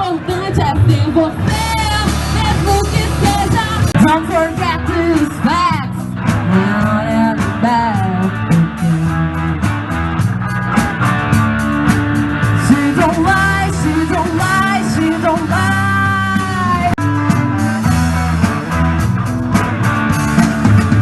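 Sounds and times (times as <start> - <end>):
lead guitar bending notes: 0.0 - 21.0
live rock band: 0.0 - 21.0.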